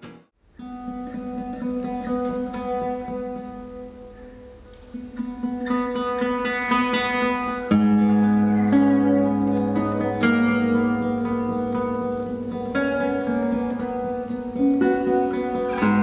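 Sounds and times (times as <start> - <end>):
classical guitar duo playing: 0.0 - 16.0.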